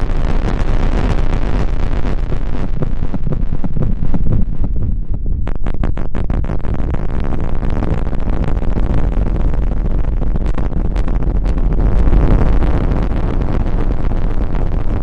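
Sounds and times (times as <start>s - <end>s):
dense crackling: 0.0s - 15.0s.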